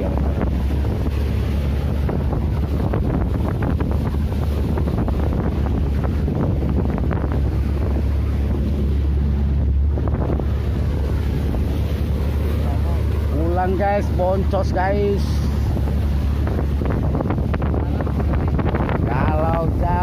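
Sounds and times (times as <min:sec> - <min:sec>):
boat engine humming: 0:00.0 - 0:20.0
waves washing against hull: 0:00.0 - 0:20.0
wind buffeting microphone: 0:00.0 - 0:20.0.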